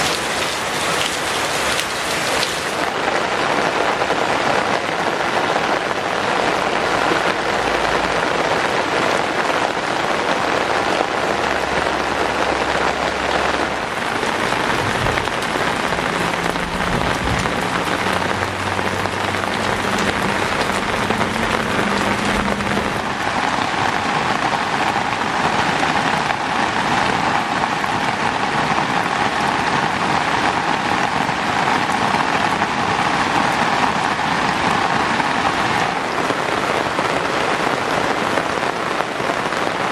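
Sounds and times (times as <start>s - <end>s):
rain on roofs and ground: 0.0s - 39.9s.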